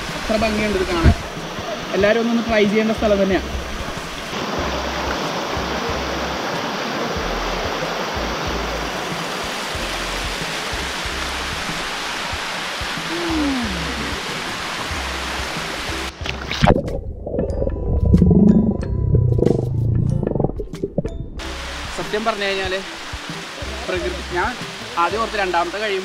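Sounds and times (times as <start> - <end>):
waterfall rushing: 0.0 - 16.7, 21.4 - 26.0
music: 0.0 - 26.0.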